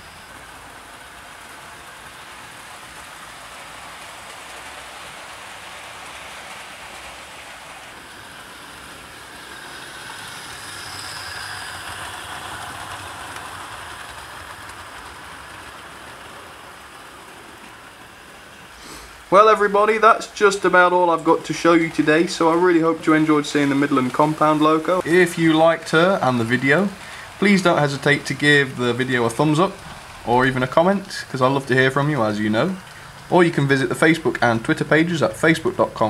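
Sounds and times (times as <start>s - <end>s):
model train wheels on rail: 0.0s - 36.0s.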